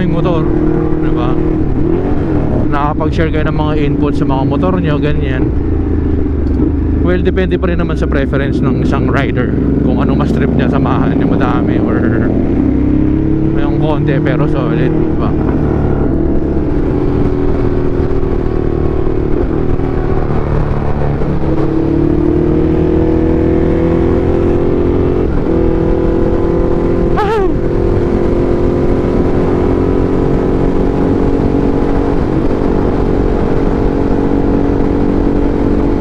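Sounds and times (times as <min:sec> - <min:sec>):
motorcycle engine cruising: 0:00.0 - 0:36.0.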